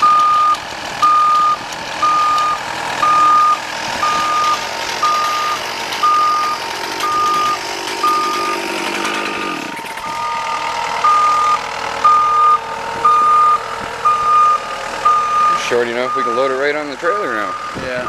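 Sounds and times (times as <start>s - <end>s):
engine running: 0.0s - 18.0s
vehicle back-up alarm beeping: 0.0s - 18.0s.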